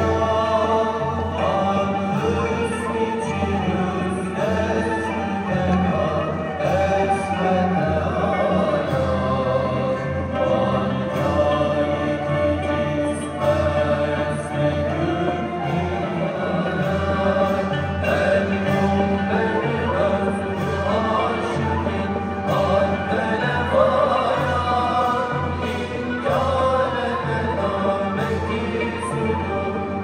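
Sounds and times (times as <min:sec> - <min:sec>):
chorus singing: 0:00.0 - 0:30.0
instrumental ensemble: 0:00.0 - 0:30.0.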